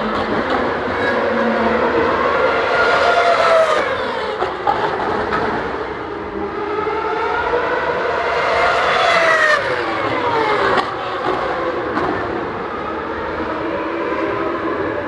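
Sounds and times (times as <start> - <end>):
racing car engines at high revs: 0.1 - 15.0.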